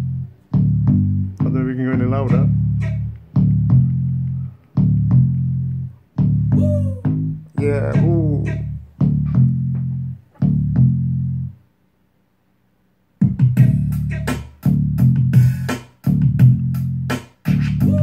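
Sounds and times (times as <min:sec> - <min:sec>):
music with bass and guitar: 0:00.0 - 0:11.7, 0:13.2 - 0:18.0.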